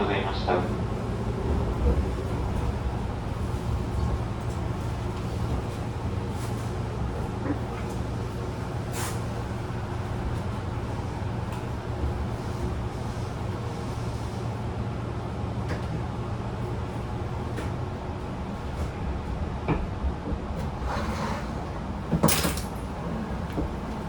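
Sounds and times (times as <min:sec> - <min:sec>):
train equipment humming: 0:00.0 - 0:24.0.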